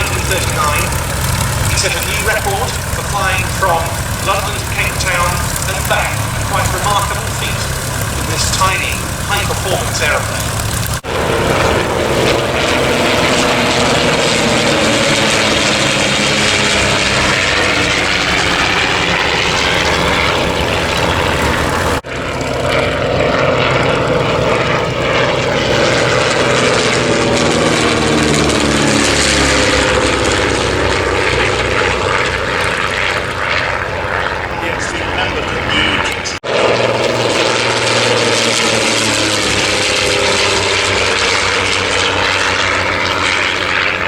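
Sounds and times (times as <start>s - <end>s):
propeller aircraft flying past: 0.0s - 44.0s.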